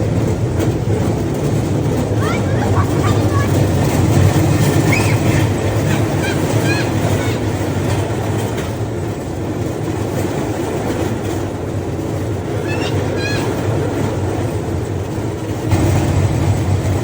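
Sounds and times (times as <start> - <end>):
steel wheels rolling on track: 0.0 - 17.0.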